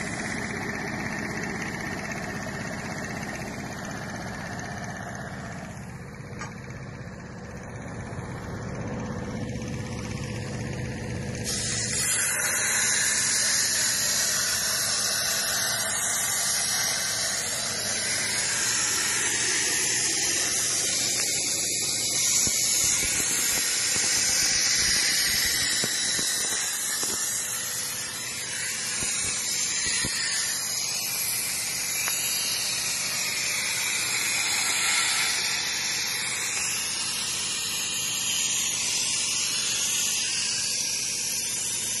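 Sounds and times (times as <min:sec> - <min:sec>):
cutting torch hissing: 0:00.0 - 0:06.0, 0:09.3 - 0:42.0.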